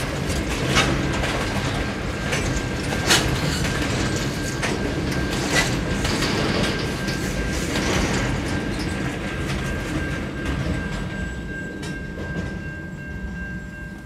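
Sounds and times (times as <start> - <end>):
train wheels rumbling over rails: 0.0 - 14.0.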